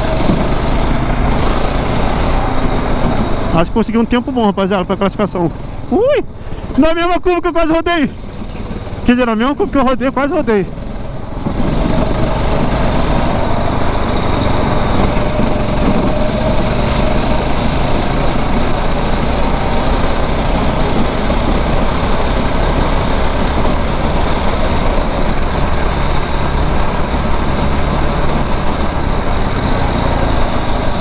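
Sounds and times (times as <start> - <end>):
small kart engine running: 0.0 - 31.0.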